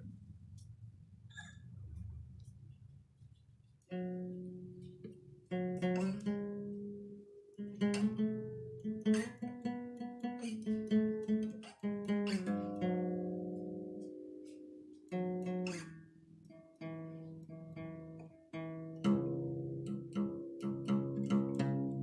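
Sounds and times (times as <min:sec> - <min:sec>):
acoustic guitar strumming: 0:03.9 - 0:22.0.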